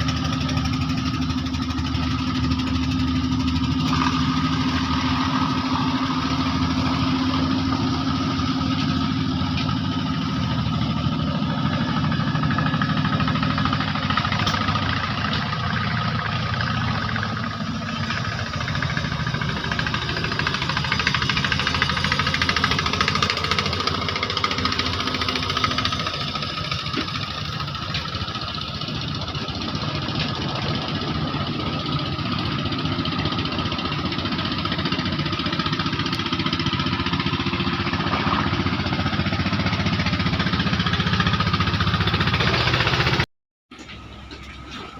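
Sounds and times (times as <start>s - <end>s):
small boat engine running: 0.0s - 43.2s.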